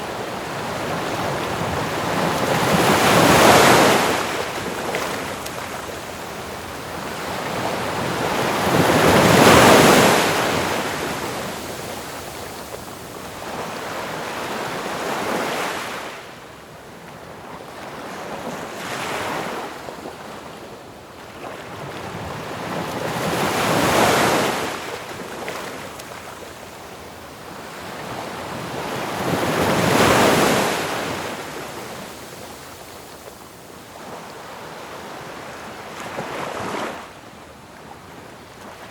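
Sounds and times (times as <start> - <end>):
waves breaking and washing in: 0.0 - 38.9.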